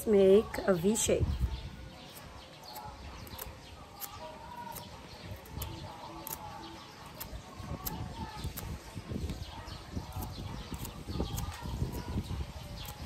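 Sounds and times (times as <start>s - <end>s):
birds chirping: 0.0s - 13.0s
knife scraping a stem: 1.4s - 13.0s.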